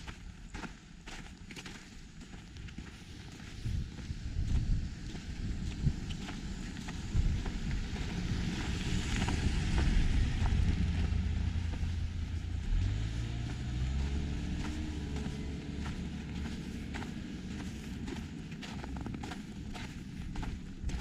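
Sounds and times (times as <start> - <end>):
footsteps crunching on snow: 0.0 - 21.0
vehicle engine humming: 2.0 - 21.0.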